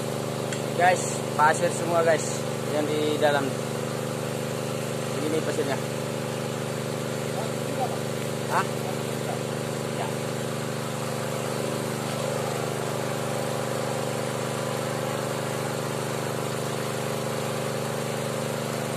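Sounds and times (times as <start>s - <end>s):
water pump engine running: 0.0s - 18.9s.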